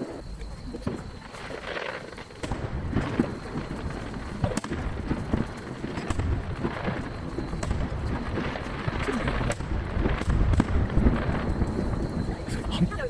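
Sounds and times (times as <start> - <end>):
low rumble of booms: 0.0 - 13.0
firework shells bursting: 0.2 - 12.8.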